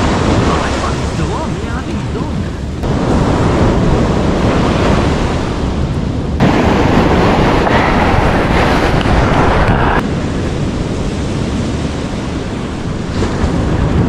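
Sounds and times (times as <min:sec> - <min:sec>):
loud rush of noise: 0:00.0 - 0:14.0
ocean surf washing in: 0:00.0 - 0:14.0
wind buffeting microphone: 0:00.0 - 0:14.0.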